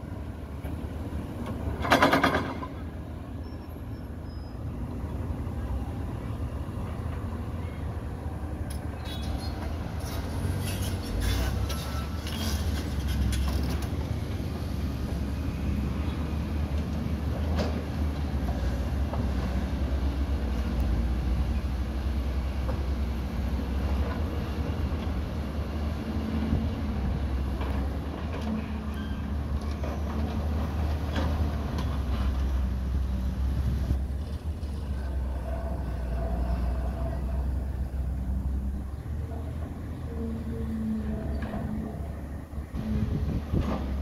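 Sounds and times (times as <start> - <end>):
excavator diesel engine rumbling: 0.0 - 44.0.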